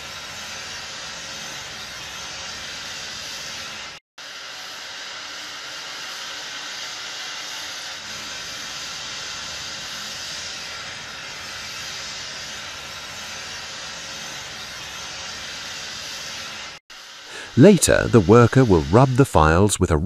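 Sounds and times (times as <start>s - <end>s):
wet sandblasting hiss: 0.0s - 19.7s.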